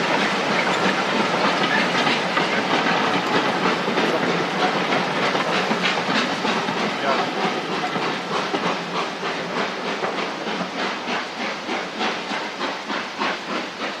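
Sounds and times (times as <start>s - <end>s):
steam hissing: 0.0s - 14.0s
steam locomotive exhaust beats: 0.0s - 14.0s.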